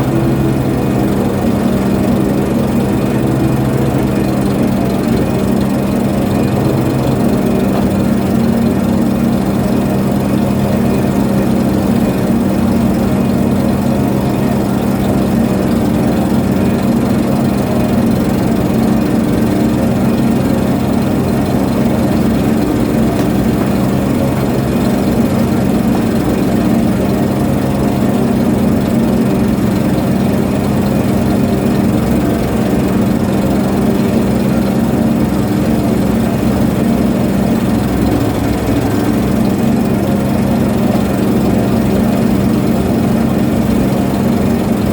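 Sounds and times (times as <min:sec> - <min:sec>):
ship diesel engine droning: 0:00.0 - 0:44.9.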